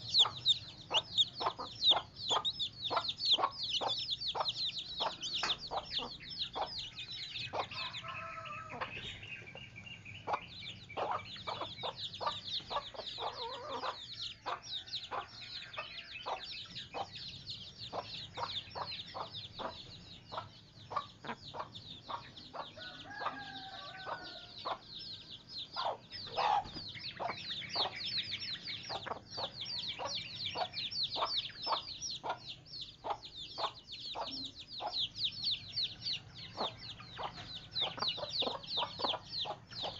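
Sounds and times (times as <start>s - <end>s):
chickens clucking: 0.0s - 39.9s
high-pitched chirping: 0.0s - 39.9s.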